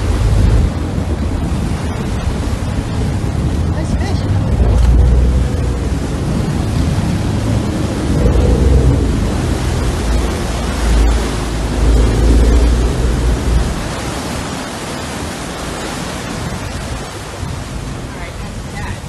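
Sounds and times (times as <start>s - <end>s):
wind blowing on microphone: 0.0s - 19.0s.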